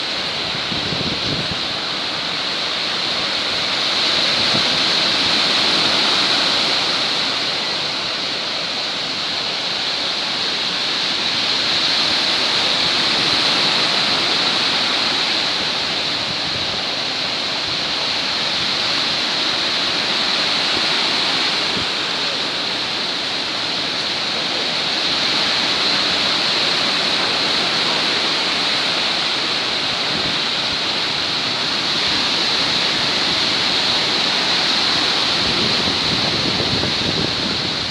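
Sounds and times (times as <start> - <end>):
waves breaking on shore: 0.0 - 37.9.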